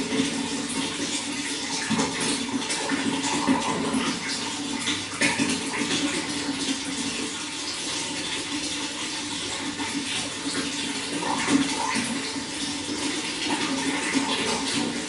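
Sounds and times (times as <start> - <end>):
running water splashing: 0.0 - 15.0
water gurgles: 0.0 - 15.0.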